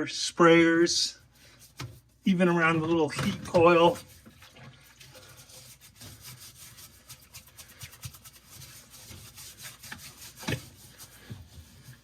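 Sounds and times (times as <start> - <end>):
scrub brush scrubbing: 0.9 - 12.0.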